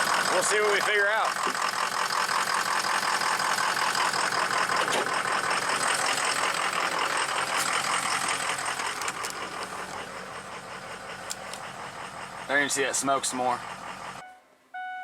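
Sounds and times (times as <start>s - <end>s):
diesel engine running rough: 0.0s - 14.2s.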